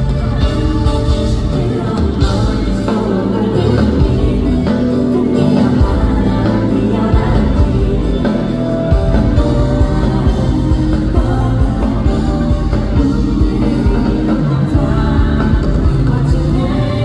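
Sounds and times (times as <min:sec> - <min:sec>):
man singing: 0:00.0 - 0:17.0
rock band with steady beat: 0:00.0 - 0:17.0.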